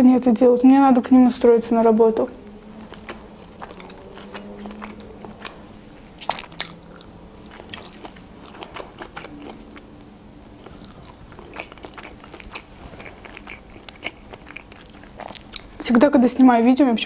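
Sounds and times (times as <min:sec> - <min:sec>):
person chewing with crunches: 0:02.2 - 0:15.9.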